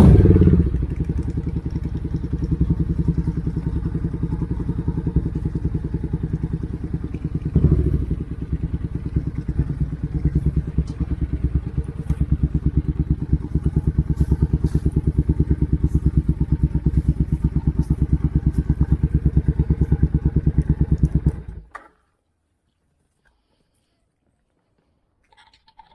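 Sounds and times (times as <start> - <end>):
motorcycle engine idling: 0.0 - 21.8
motorcycle throttle burst: 0.0 - 21.8.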